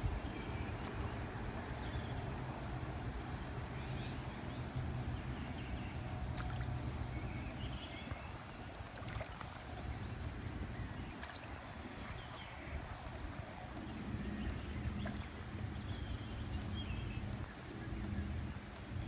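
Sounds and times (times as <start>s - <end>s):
rain falling on water: 0.0s - 19.0s.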